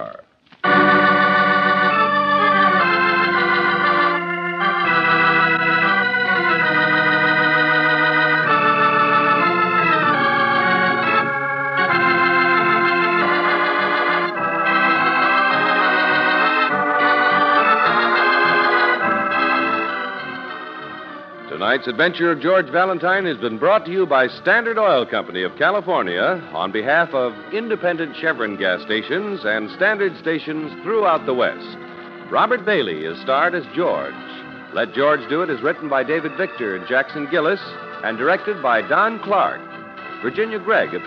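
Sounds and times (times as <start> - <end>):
organ chords: 0.0 - 41.0.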